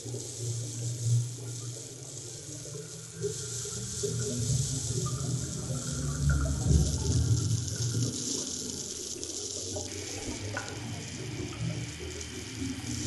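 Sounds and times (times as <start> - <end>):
low gurgling rumble: 0.0 - 13.0
underwater rushing water: 0.0 - 13.0.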